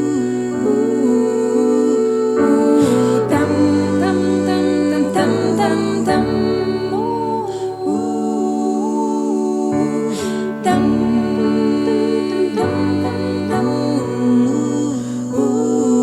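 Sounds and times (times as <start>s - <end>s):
vocal ensemble singing a cappella: 0.0s - 16.0s.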